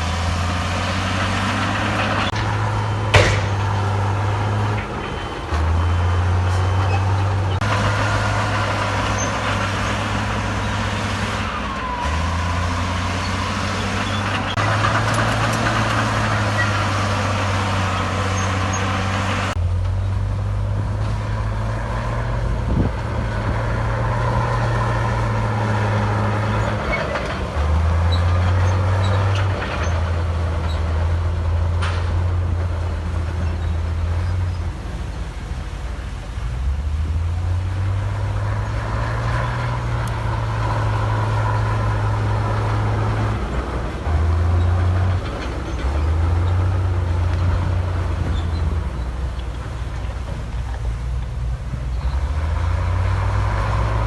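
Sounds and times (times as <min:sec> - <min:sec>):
heavy diesel engine revving: 0:00.0 - 0:54.0.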